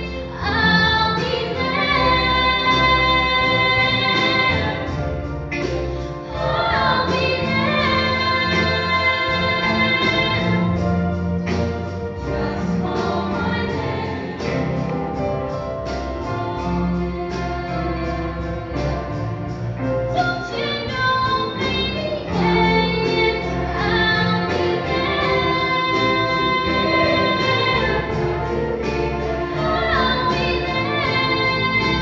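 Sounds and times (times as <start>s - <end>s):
choir singing: 0.0s - 5.0s, 6.2s - 10.8s, 11.9s - 15.3s, 16.3s - 19.5s, 22.2s - 32.0s
instrumental accompaniment with steady beat: 0.0s - 32.0s.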